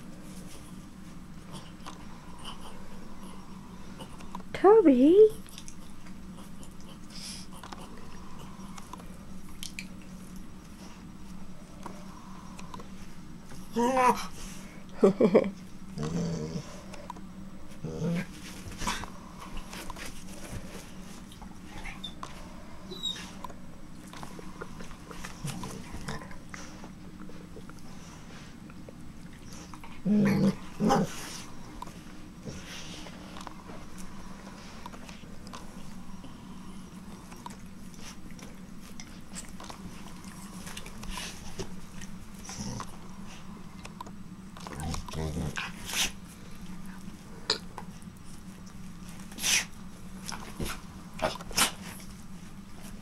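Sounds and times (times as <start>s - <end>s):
low steady hum: 0.0s - 53.0s
dogs mouthing and rustling: 5.3s - 14.8s, 15.5s - 53.0s.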